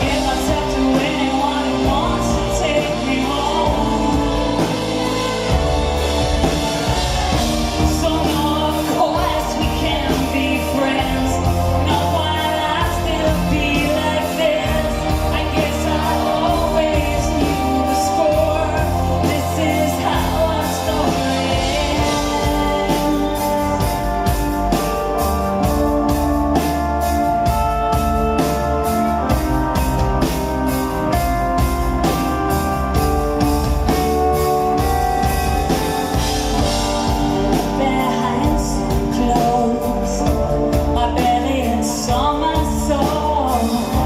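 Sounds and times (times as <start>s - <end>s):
live rock band playing: 0.0s - 44.0s
woman singing lead: 0.0s - 44.0s.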